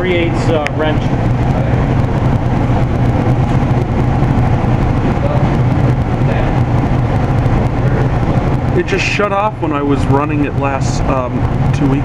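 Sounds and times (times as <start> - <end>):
oil burner blower humming: 0.0 - 12.0.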